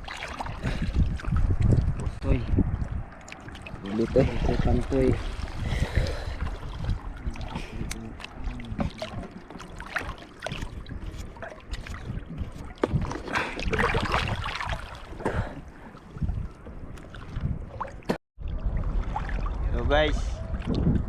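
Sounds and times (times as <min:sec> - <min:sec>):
sea water splashing: 0:00.0 - 0:02.0, 0:02.9 - 0:19.8
wind rumble on microphone: 0:00.0 - 0:21.0.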